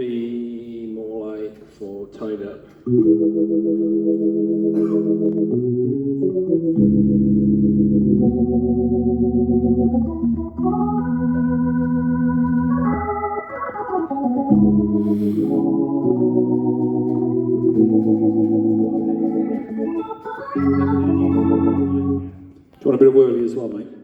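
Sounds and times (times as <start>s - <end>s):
organ playing sustained chords: 2.8s - 22.6s.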